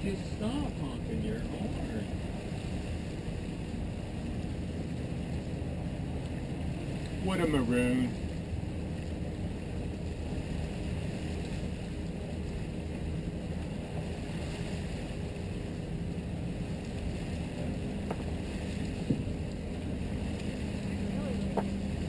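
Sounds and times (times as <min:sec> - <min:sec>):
boat engines droning: 0:00.0 - 0:22.0
hull moving through water: 0:00.0 - 0:22.0.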